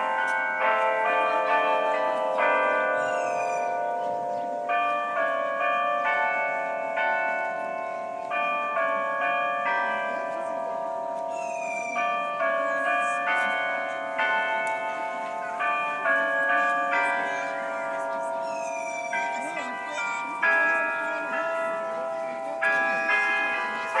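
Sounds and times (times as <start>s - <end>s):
clock bells playing a melody: 0.0s - 24.0s.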